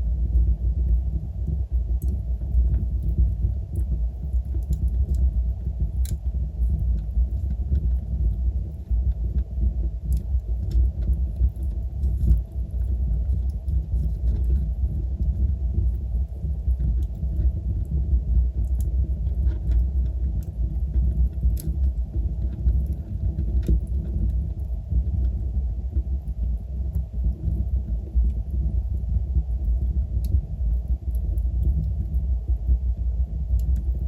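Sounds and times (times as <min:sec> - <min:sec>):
fire crackling and popping: 0:00.2 - 0:34.0.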